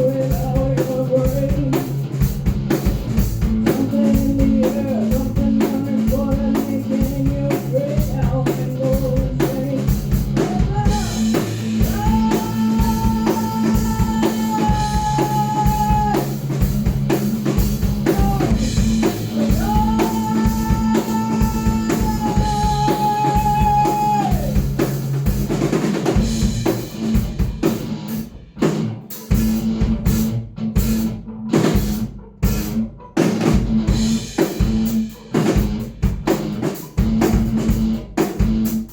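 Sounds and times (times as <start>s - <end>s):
metal band playing: 0.0s - 38.9s.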